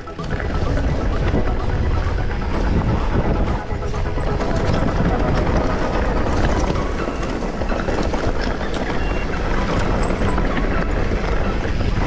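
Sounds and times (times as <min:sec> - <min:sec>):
bike knocking and rattling: 0:00.0 - 0:12.0
tyres on rock and dirt: 0:00.0 - 0:12.0
wind rumble on microphone: 0:00.0 - 0:12.0.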